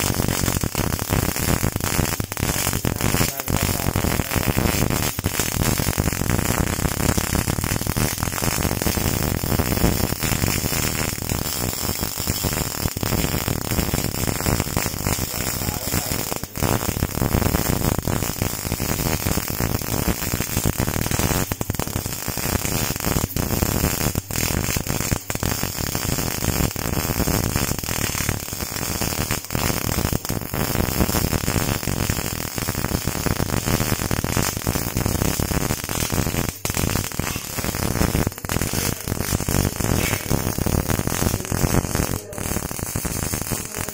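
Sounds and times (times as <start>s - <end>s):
welding arc crackling: 0.0s - 43.9s.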